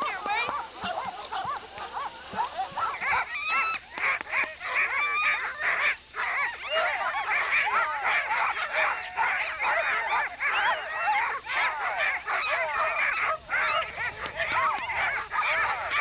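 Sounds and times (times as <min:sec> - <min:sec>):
sled dogs yelping and barking: 0:00.0 - 0:16.0.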